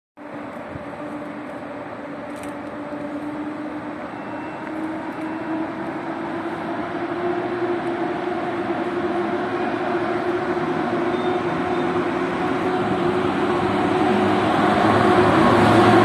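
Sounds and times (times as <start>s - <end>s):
train motor hum rising in pitch: 0.2s - 16.0s
train rumble: 0.2s - 16.0s.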